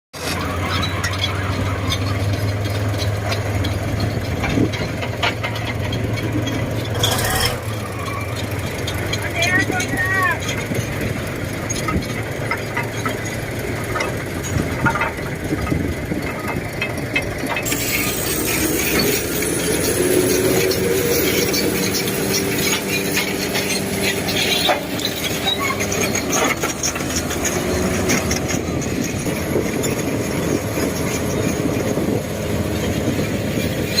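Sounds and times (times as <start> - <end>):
diesel engine running: 0.1 - 34.0
metallic squeals: 0.2 - 34.0
metal clattering: 0.4 - 34.0.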